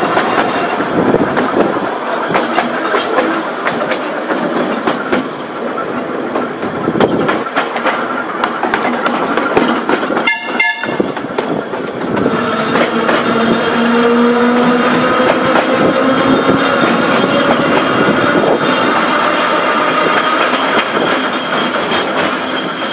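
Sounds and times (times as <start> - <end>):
tram wheels clattering on rails: 0.0 - 22.9
tram whine: 0.0 - 22.9.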